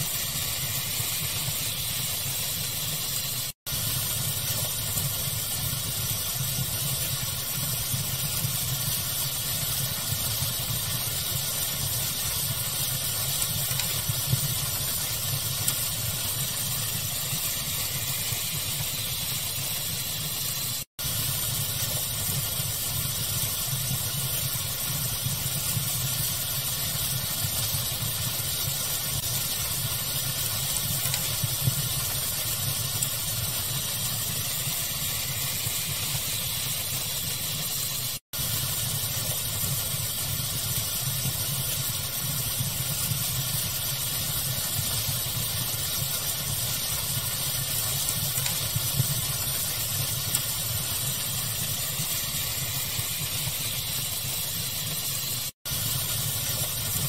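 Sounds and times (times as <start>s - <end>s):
fire crackling: 0.0s - 57.0s
pink noise hiss: 0.0s - 57.0s.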